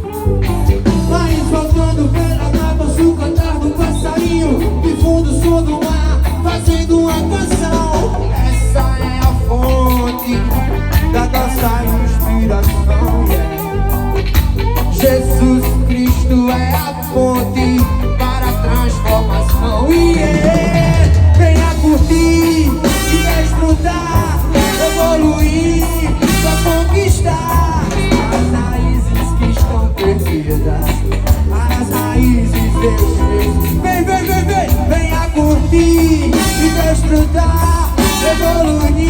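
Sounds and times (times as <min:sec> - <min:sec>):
bass line: 0:00.0 - 0:39.0
guitar: 0:00.0 - 0:39.0
person singing: 0:00.0 - 0:39.0.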